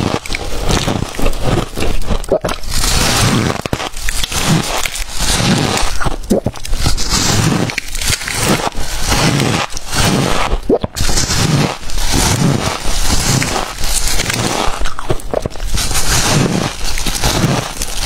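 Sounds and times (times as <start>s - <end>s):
chewing crunchy frost: 0.0s - 18.0s.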